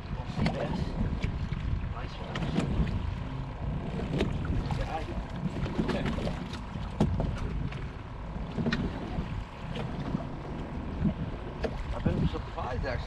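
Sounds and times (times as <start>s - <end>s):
water moving around boat: 0.0s - 13.0s
wind rumbling on microphone: 0.0s - 13.0s.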